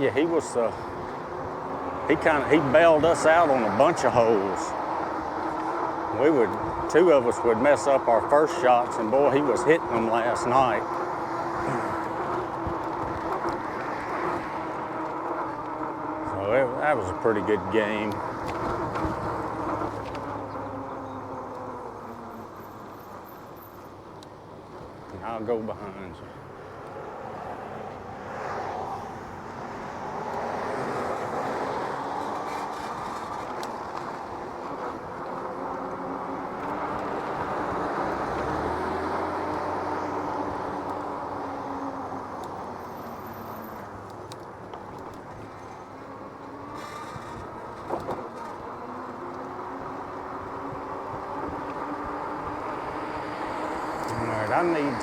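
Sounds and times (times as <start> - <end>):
motor vehicles passing: 0.0 - 55.0
road noise rushing: 0.0 - 55.0.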